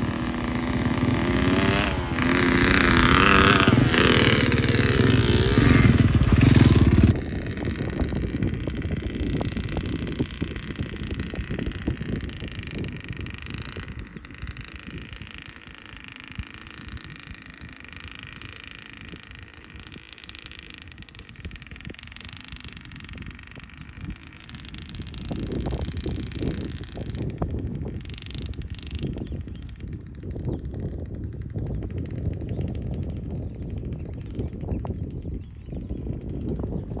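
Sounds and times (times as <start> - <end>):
dirt bike rumble and rattling: 0.0 - 37.0
wind on microphone: 0.0 - 37.0.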